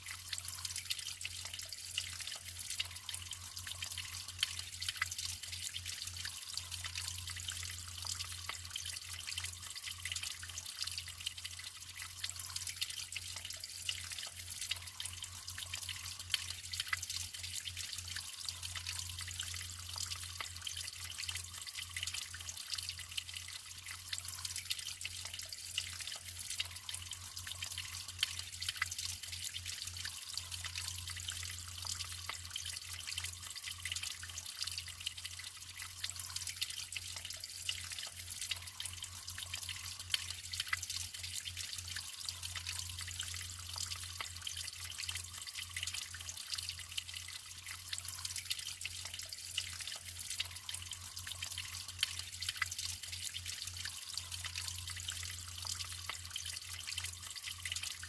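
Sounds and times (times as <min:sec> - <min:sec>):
water drips: 0:00.0 - 0:58.0
water trickling and splashing: 0:00.0 - 0:58.0.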